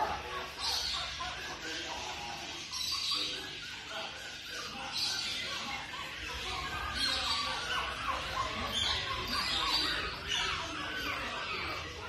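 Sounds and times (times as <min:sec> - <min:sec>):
puppies squeaking and whining: 0:00.0 - 0:12.0.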